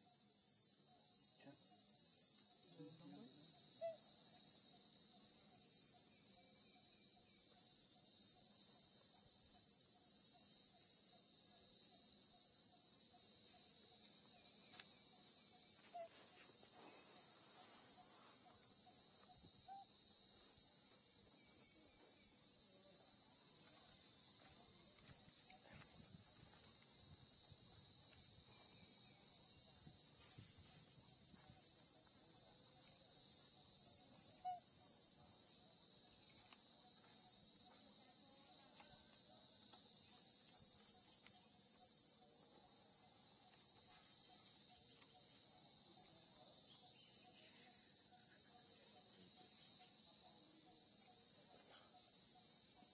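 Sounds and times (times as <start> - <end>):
insect chorus buzzing: 0.0 - 52.9.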